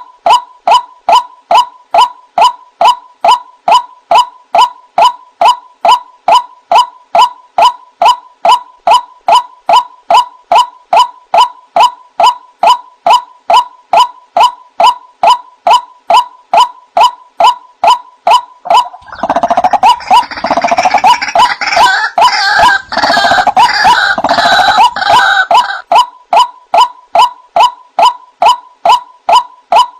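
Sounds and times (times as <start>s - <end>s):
harsh overlapping bird chattering: 0.3s - 29.9s
waterhen calling kwak notes: 0.3s - 29.9s.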